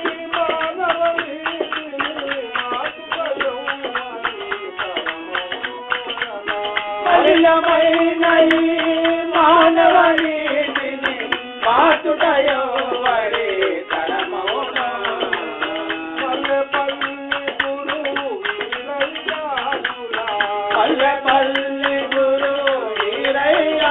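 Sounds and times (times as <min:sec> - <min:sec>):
percussion beat: 0:00.0 - 0:23.9
person singing devotional song: 0:00.0 - 0:23.9.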